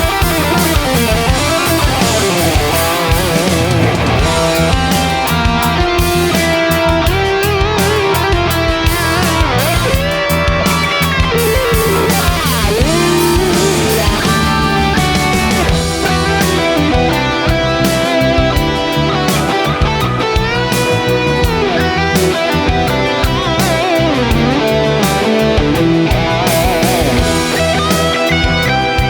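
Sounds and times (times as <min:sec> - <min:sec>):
bass guitar: 0:00.0 - 0:29.0
lead electric guitar: 0:00.0 - 0:29.0
programmed drums: 0:00.0 - 0:29.0.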